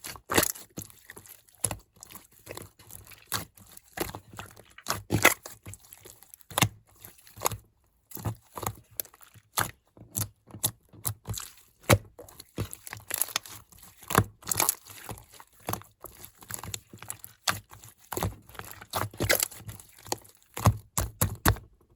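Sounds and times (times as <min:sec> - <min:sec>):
slime crunching and crackling: 0:00.0 - 0:21.8.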